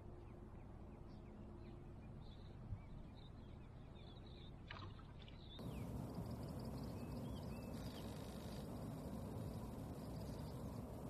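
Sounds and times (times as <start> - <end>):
outdoor background noise: 0.0 - 11.0
small birds chirping: 0.2 - 11.0.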